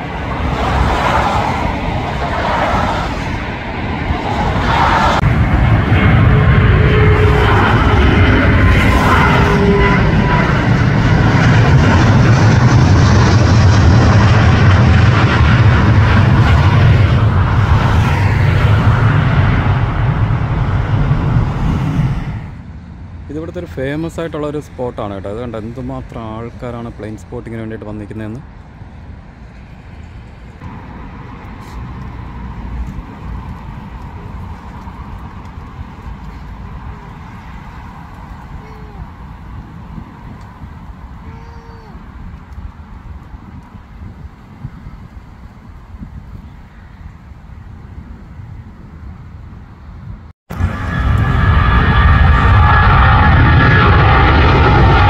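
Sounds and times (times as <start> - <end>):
jet airliner flying overhead: 0.0 - 55.0.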